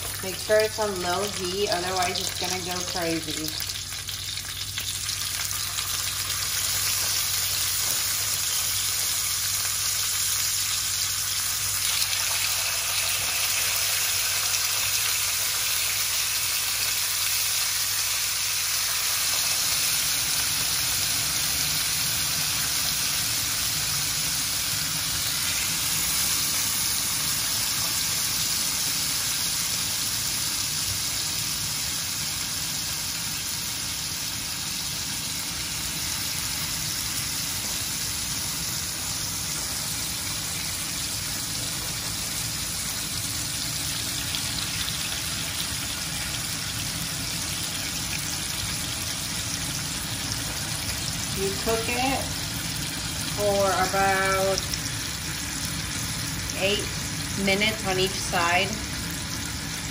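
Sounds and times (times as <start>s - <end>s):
chicken sizzling in grill pan: 0.0s - 59.9s.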